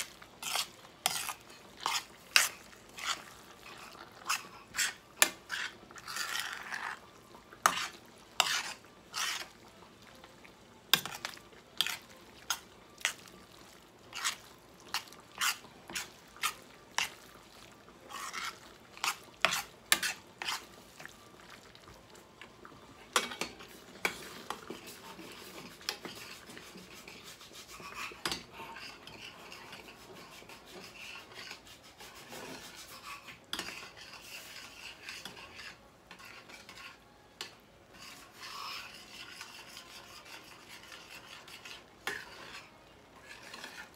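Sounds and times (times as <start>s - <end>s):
spoon clacking against pan: 0.0s - 7.0s, 7.6s - 9.5s, 10.9s - 21.1s, 23.1s - 31.6s, 32.5s - 43.9s
spoon scraping thick mixture: 0.0s - 21.8s, 23.2s - 43.9s.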